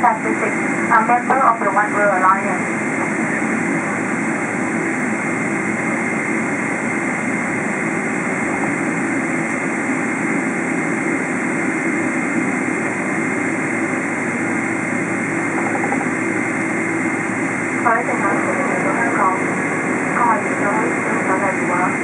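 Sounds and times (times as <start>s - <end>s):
airplane cabin noise: 0.0s - 22.0s.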